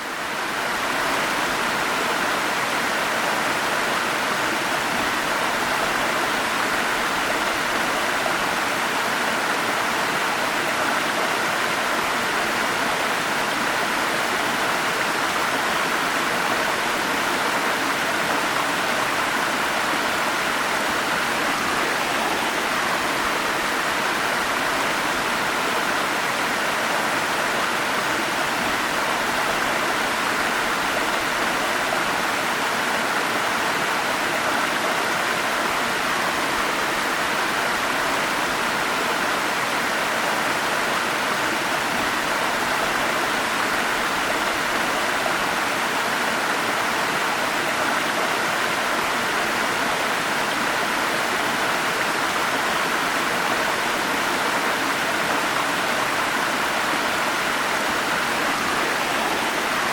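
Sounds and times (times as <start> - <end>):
forest stream rushing over cascades: 0.0 - 59.9.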